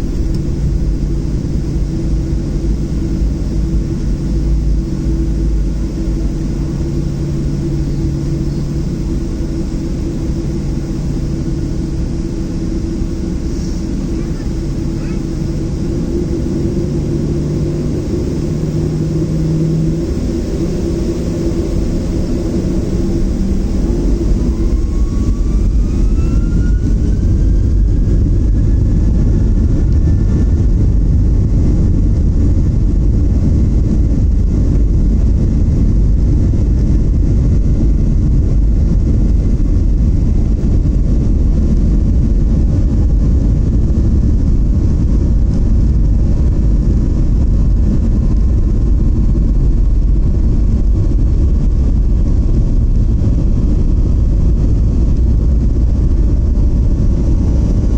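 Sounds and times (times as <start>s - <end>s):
jet engine whine: 0.0s - 57.9s
takeoff roll rumble: 0.0s - 57.9s.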